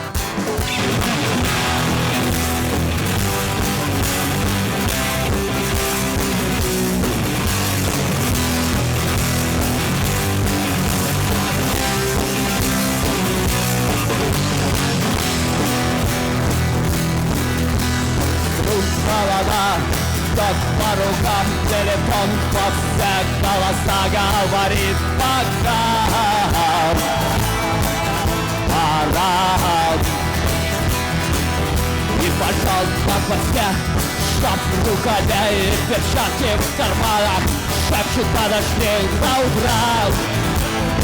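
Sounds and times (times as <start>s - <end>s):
bass line: 0.0s - 41.0s
drums: 0.0s - 41.0s
guitars: 0.0s - 41.0s
live rock band playing: 0.0s - 41.0s.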